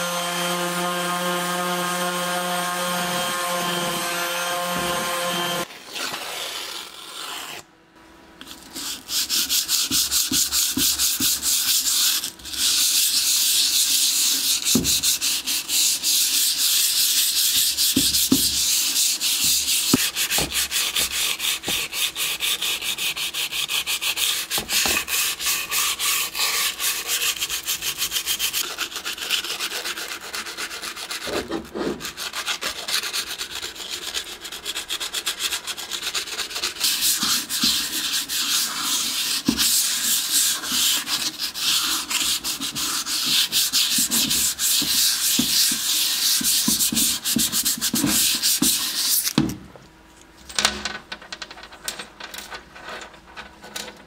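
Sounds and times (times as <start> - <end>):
hand sanding steel: 0.1 - 5.7, 8.7 - 49.3.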